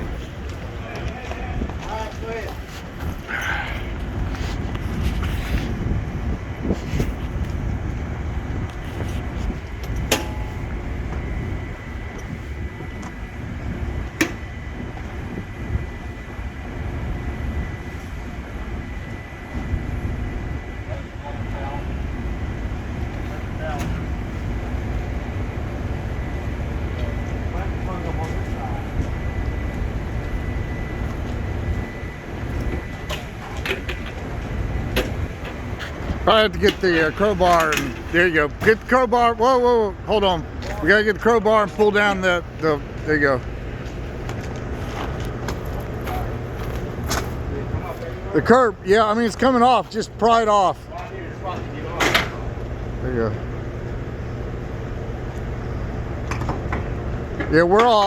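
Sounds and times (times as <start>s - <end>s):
faint high whine: 0.0s - 58.0s
heavy machinery rumbling: 0.0s - 58.0s.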